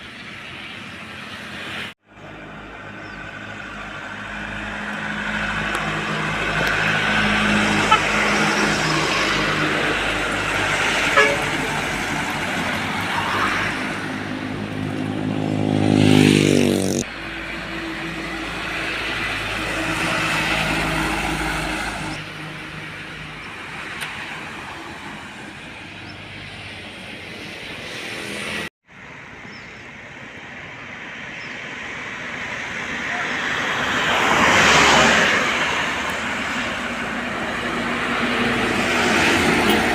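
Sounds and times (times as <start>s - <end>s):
diesel trucks driving past: 0.0s - 39.9s
road noise: 0.0s - 39.9s.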